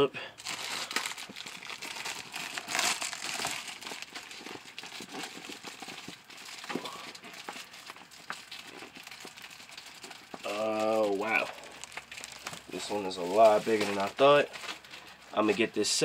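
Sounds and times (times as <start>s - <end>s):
plastic wrapping crinkling: 0.4s - 16.0s.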